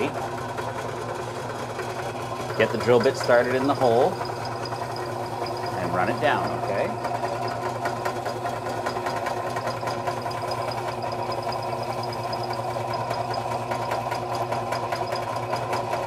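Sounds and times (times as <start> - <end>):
drill press motor hum: 0.0 - 16.0.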